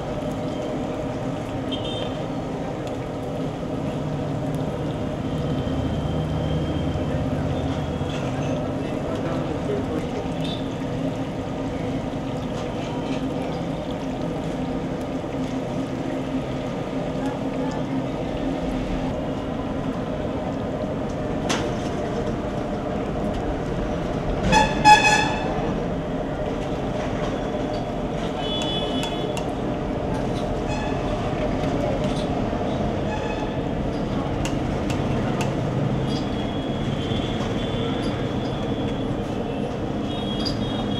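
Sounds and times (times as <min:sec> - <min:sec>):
food deep-frying in bubbling oil: 0:00.0 - 0:40.9.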